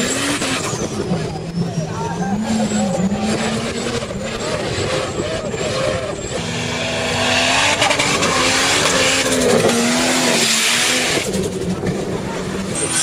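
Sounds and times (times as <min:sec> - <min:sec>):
engine pulling hard: 0:00.0 - 0:13.0.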